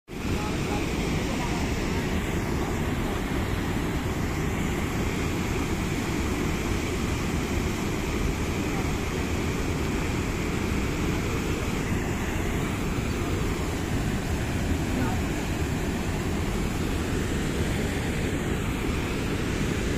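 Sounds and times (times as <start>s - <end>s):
water rushing over weir: 0.1s - 19.9s.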